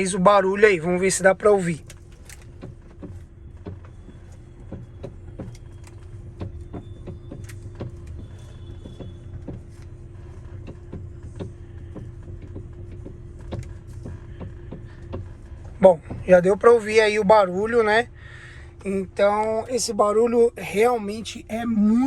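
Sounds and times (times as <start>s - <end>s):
car engine idling: 0.0s - 22.0s
steady hum: 0.0s - 22.0s
steering clicking and creaking: 0.0s - 22.0s.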